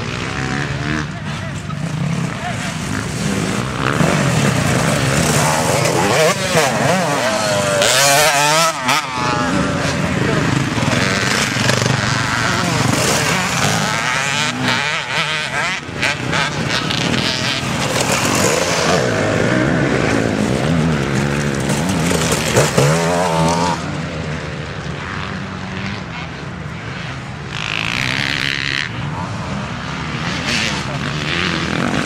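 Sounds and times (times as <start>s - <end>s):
motorcycle engines revving: 0.0s - 32.0s
motorcycle passing close: 0.0s - 32.0s.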